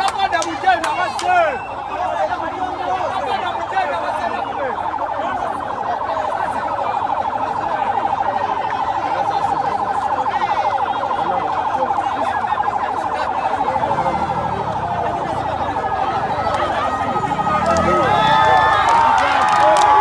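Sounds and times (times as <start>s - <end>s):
jumble of voices: 0.0s - 20.0s.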